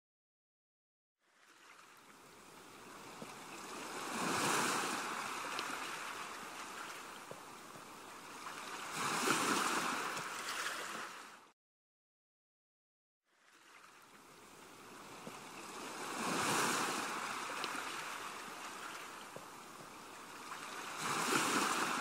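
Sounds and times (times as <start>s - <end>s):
ocean waves washing in: 1.2s - 11.5s, 13.3s - 22.0s.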